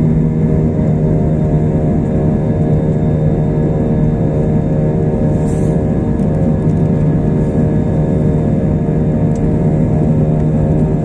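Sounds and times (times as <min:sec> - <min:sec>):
jet engines droning in cabin: 0:00.0 - 0:11.0.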